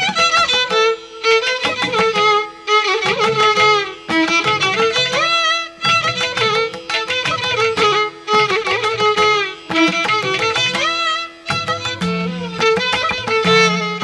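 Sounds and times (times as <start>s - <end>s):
percussion strikes: 0.0s - 14.0s
violin melody with sliding notes: 0.0s - 14.0s.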